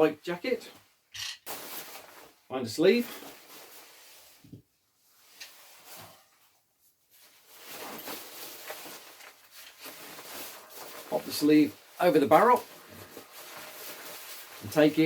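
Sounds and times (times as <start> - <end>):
jacket fabric rustling: 0.0 - 15.0.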